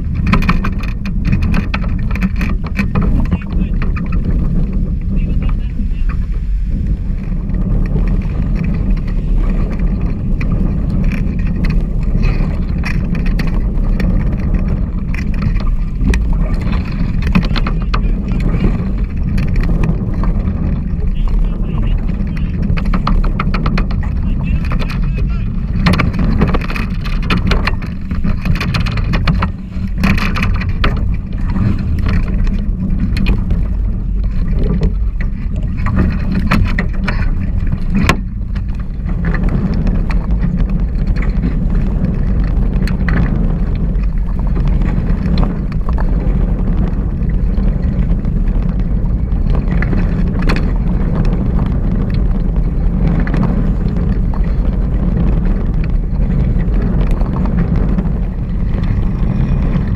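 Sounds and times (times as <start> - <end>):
water rushing past hulls: 0.0 - 59.9
water splashes: 0.0 - 59.9
wind buffeting microphone: 0.0 - 59.9.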